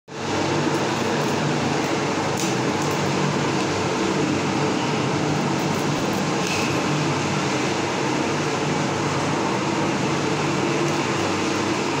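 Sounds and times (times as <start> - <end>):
steady mechanical hum: 0.1 - 12.0.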